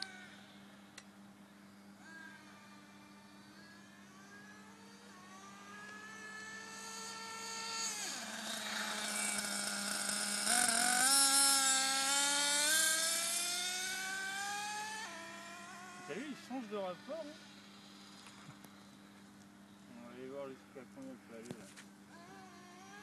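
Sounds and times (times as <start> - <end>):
small model engine whining: 0.0 - 0.7, 1.5 - 20.8, 22.0 - 23.0.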